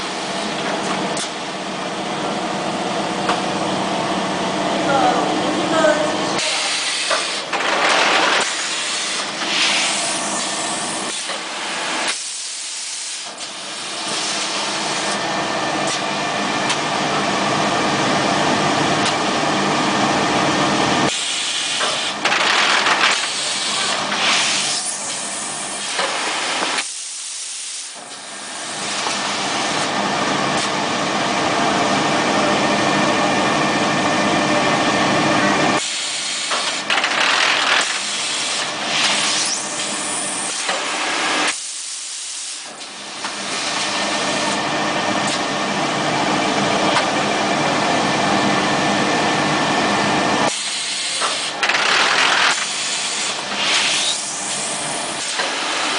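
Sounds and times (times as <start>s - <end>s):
machine running with faint hum: 0.0s - 27.2s, 27.9s - 55.9s.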